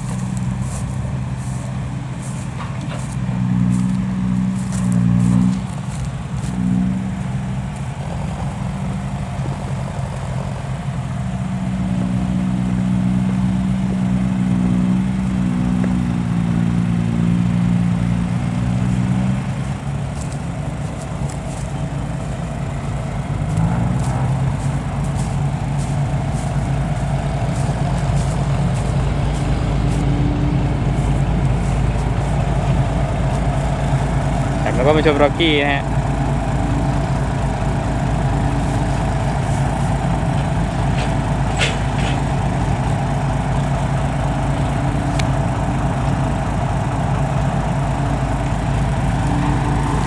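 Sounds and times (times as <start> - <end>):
truck diesel engine running: 0.0 - 50.0.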